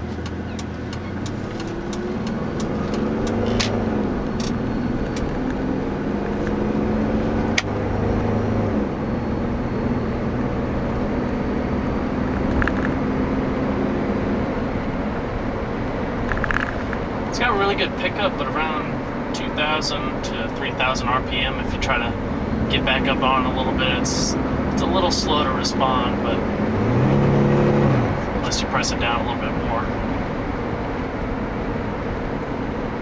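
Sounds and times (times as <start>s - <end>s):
car engine accelerating: 0.0s - 33.0s
tyre and road noise: 0.0s - 33.0s.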